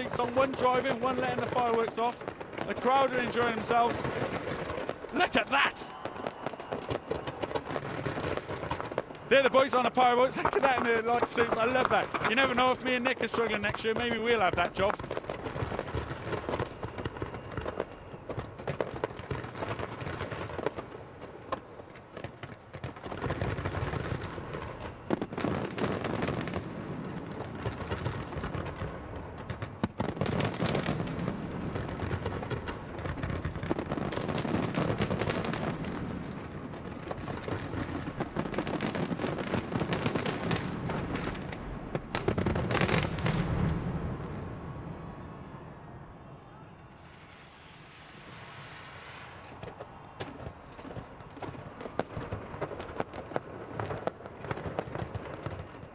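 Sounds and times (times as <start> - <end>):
fireworks bangs and crackling: 0.0 - 45.8, 46.9 - 55.9.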